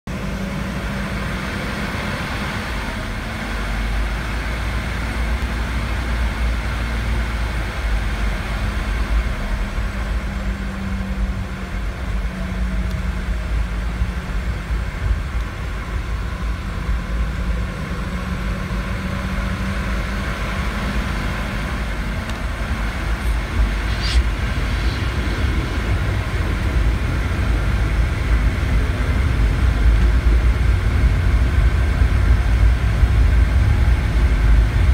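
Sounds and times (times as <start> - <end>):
jet engines humming: 0.1 - 34.9.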